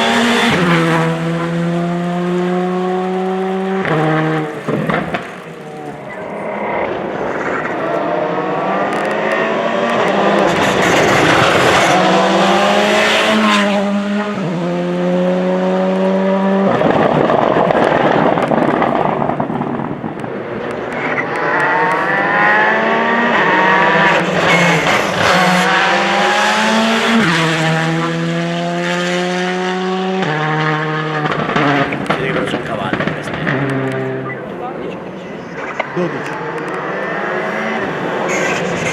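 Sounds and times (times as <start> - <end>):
rally car engines accelerating: 0.0 - 38.9.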